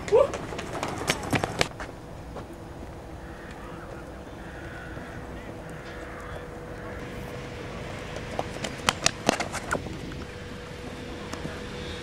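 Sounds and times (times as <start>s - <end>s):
running footsteps: 0.0s - 12.0s.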